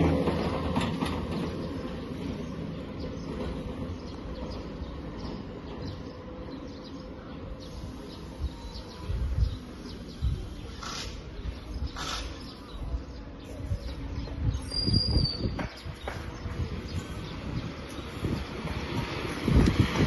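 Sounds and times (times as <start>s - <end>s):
low street rumble: 0.0s - 20.0s.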